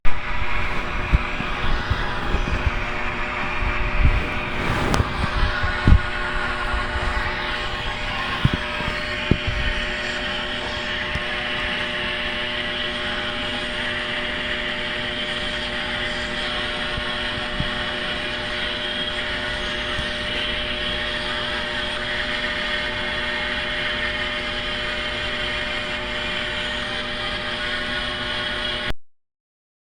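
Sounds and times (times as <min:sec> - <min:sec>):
steady mechanical drone: 0:00.1 - 0:28.9.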